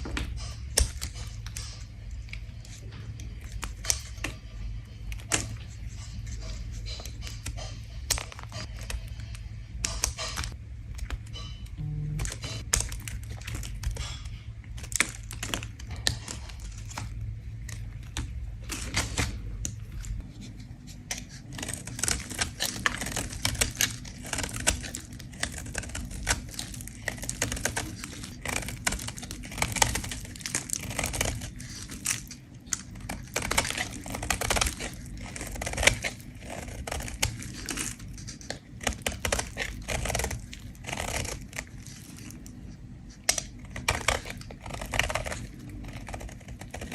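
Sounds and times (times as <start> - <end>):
soap bar being scraped: 0.0 - 11.6, 12.3 - 46.9.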